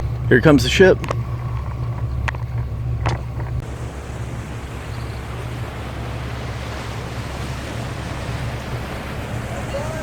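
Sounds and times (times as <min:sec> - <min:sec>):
boat engine rumble: 0:00.0 - 0:10.0.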